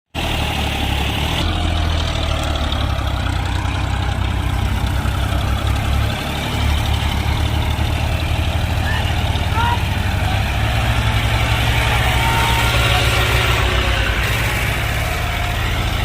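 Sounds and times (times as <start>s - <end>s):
diesel tractor engine throbbing: 0.1s - 16.0s.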